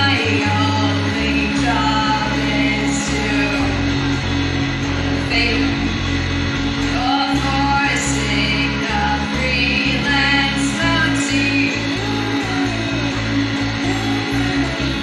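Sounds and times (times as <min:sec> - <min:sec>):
music with singing and bass: 0:00.0 - 0:15.0.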